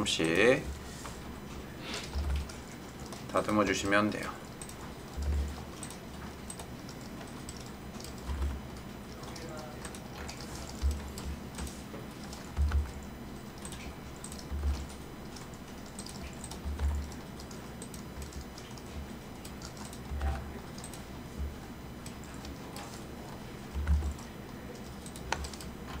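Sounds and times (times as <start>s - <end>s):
keyboard and mouse clicks: 2.0s - 26.0s.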